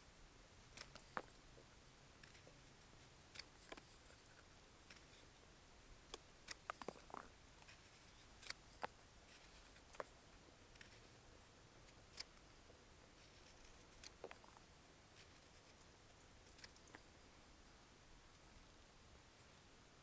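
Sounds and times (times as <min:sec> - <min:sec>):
faint irregular clicks and knocks: 0:00.5 - 0:18.7.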